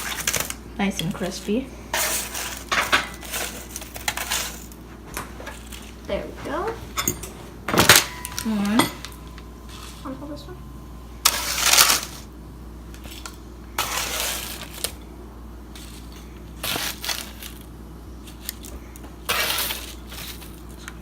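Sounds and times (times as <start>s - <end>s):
dishes scraping and crunching: 0.0s - 10.2s, 11.2s - 12.3s, 12.9s - 15.1s, 15.7s - 21.0s.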